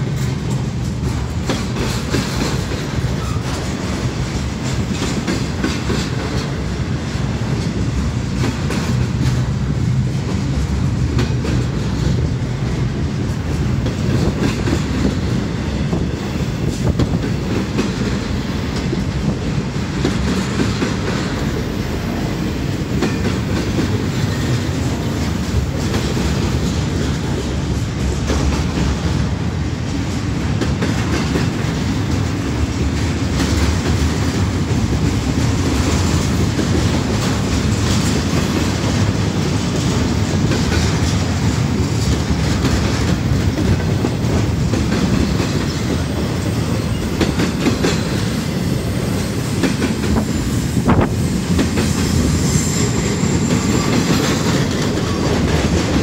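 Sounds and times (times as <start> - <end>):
freight train rumbling past: 0.0 - 56.0
train wheels clicking over rails: 0.0 - 56.0.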